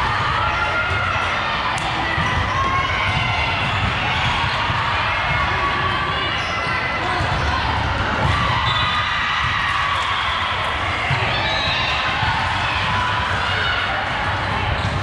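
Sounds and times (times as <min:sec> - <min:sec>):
hubbub of voices: 0:00.0 - 0:15.0.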